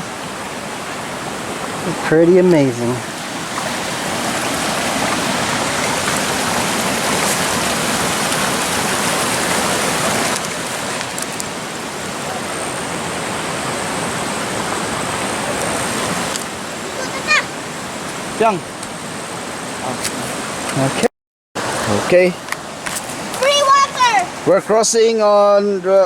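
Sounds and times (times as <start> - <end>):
river water rushing: 0.0 - 21.0, 21.6 - 25.8.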